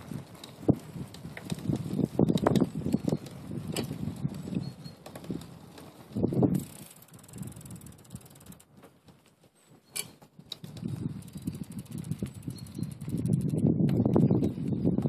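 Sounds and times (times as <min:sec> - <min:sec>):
bicycle bump: 0:00.0 - 0:15.0
bicycle frame rattling: 0:00.0 - 0:15.0
bicycle tyre rumble on pavement: 0:00.0 - 0:15.0.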